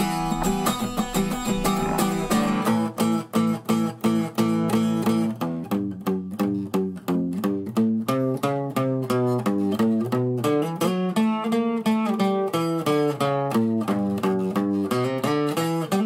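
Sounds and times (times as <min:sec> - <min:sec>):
plucked acoustic guitar notes: 0:00.0 - 0:16.0.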